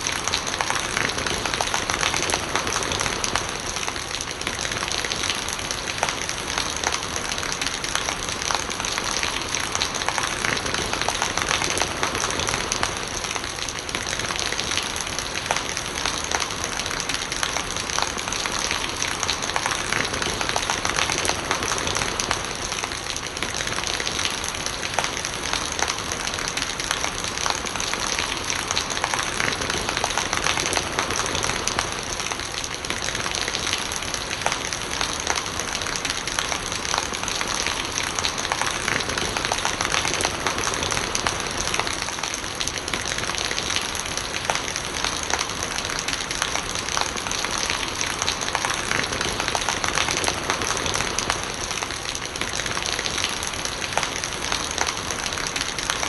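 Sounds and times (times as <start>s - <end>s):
rain pattering: 0.0s - 56.0s
rainwater gurgling: 0.0s - 56.0s.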